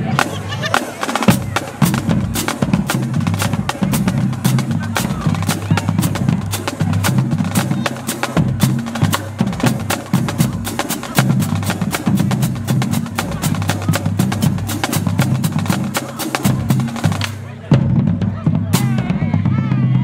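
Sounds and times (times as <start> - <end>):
marching bass drums: 0.0 - 20.0.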